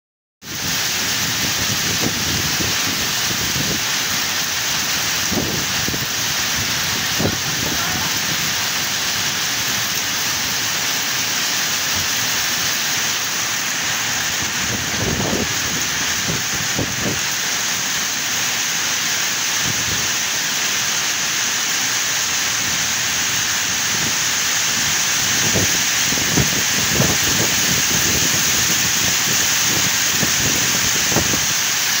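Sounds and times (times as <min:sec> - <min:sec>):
heavy rain: 0:00.4 - 0:32.0.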